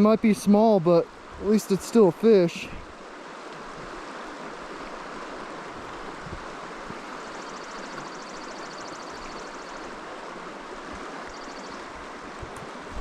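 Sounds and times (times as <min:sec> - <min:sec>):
flowing river: 0:00.0 - 0:13.0.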